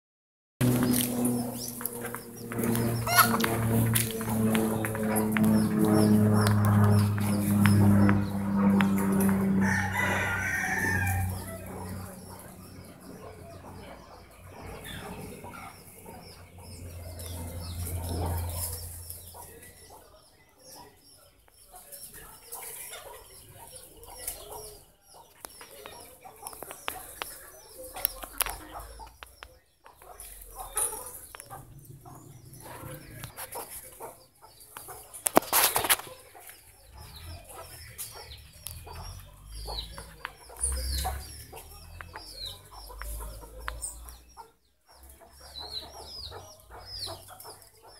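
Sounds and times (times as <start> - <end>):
birds chirping: 0.6 - 47.9
chickens: 0.9 - 47.9.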